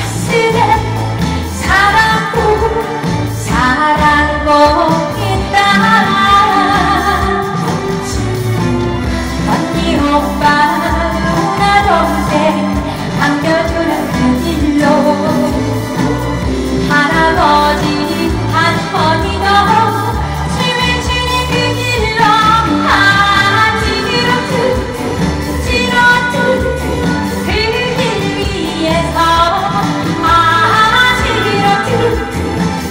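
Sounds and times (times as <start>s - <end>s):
backing music with steady beat: 0.0s - 32.9s
woman singing into a microphone: 0.0s - 32.9s.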